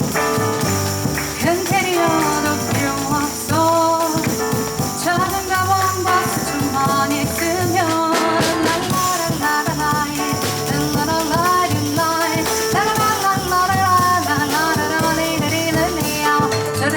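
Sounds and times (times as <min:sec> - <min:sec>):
double bass walking: 0:00.0 - 0:16.9
drums with cymbals: 0:00.0 - 0:16.9
piano: 0:00.0 - 0:16.9
sliding melody line: 0:00.0 - 0:16.9.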